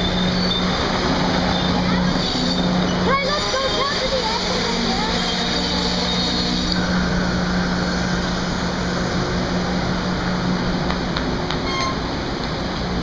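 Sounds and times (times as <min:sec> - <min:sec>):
constant low hum: 0:00.0 - 0:13.0
train wheels on rails: 0:00.0 - 0:13.0.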